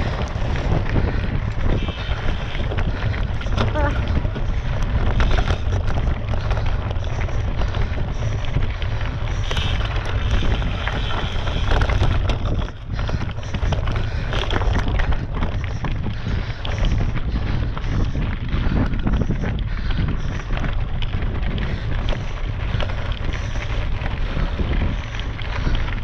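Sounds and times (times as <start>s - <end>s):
bike knocks and rattles: 0.0s - 26.0s
wind buffeting microphone: 0.0s - 26.0s.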